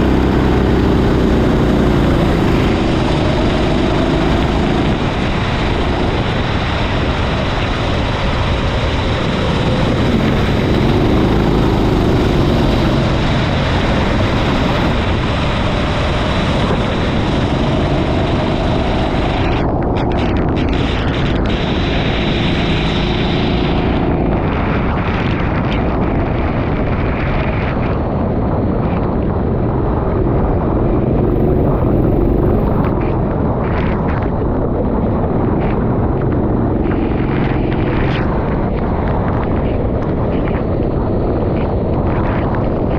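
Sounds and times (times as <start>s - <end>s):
kart engine running hard: 0.0s - 42.9s
wind and track spray rushing: 0.0s - 42.9s.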